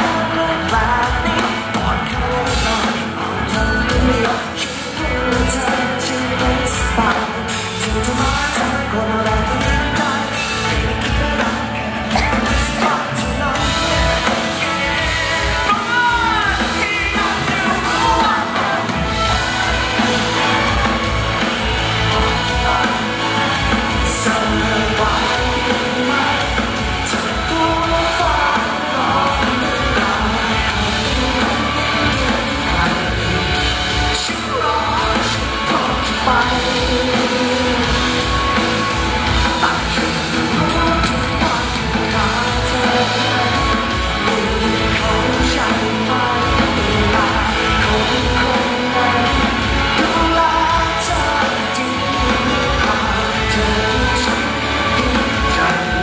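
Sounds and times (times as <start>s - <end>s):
electric guitar: 0.0s - 56.0s
keyboard: 0.0s - 56.0s
man singing into a microphone: 0.0s - 56.0s
steady drum beat: 0.0s - 56.0s.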